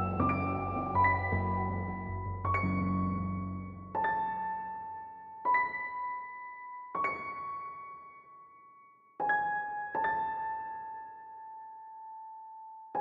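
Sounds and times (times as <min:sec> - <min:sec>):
slow sparse piano music: 0:00.0 - 0:13.0.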